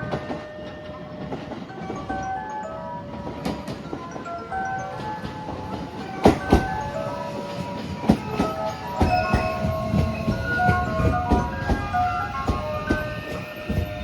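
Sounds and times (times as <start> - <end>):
train wheels clicking over rail joints: 0.0 - 14.0.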